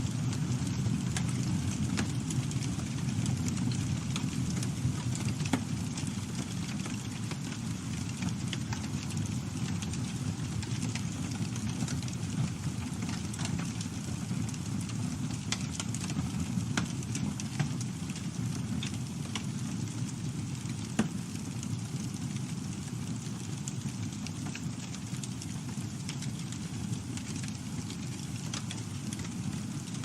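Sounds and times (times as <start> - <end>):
campfire flames rushing: 0.0 - 30.0
wood crackling and popping: 0.0 - 30.0.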